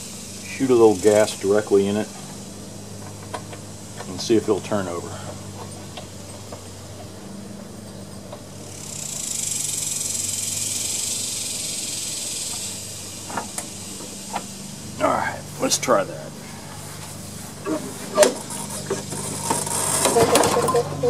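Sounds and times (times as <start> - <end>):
spray hissing: 0.0 - 7.8, 8.5 - 20.0.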